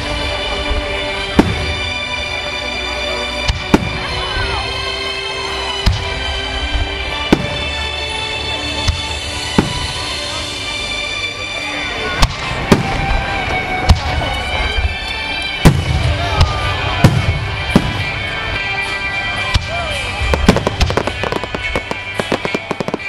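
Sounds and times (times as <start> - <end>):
fireworks bursting with bangs: 0.0 - 2.4, 3.4 - 4.6, 5.8 - 8.1, 8.7 - 10.6, 12.2 - 23.0
fireworks crackling: 0.0 - 23.0.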